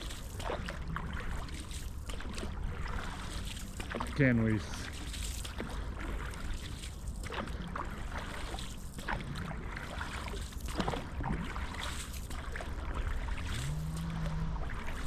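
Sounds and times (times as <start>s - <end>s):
paddle splashing in water: 0.0s - 15.0s
water trickling: 0.0s - 15.0s.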